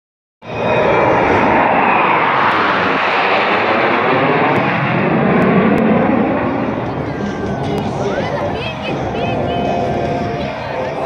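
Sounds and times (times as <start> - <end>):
jet engines roaring: 0.4 - 11.0.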